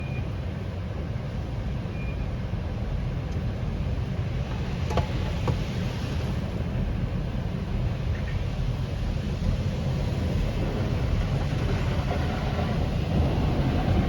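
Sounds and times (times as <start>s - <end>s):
low rumble in car wash: 0.0s - 14.0s.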